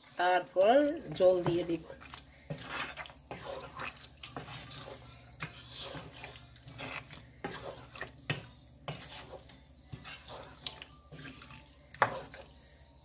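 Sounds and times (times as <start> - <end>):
wooden spatula scraping metal pot: 0.0 - 12.7.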